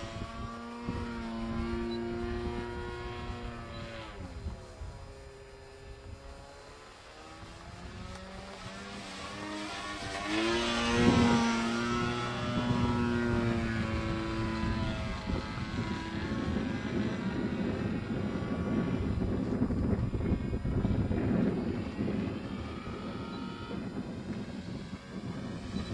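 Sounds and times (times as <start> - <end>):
propeller plane flying past: 0.0 - 25.9.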